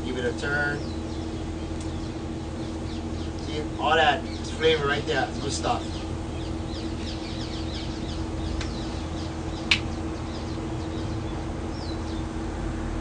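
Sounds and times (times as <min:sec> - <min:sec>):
small birds chirping: 0:00.0 - 0:12.4
steady low hum: 0:00.0 - 0:13.0.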